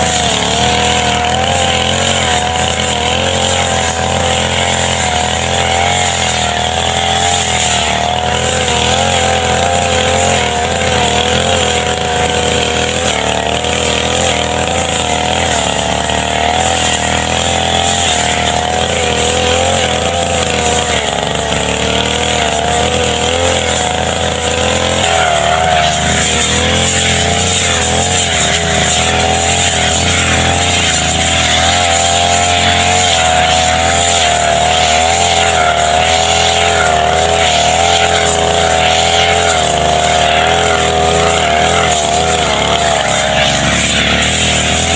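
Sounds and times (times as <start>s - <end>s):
brush cutter engine running: 0.0s - 44.9s.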